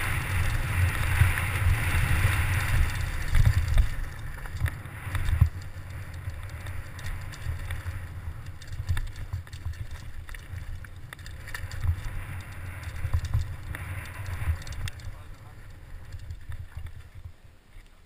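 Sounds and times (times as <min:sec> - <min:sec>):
wind and trail vibration rumble: 0:00.0 - 0:17.6
bike clicks and rattles: 0:00.0 - 0:17.9.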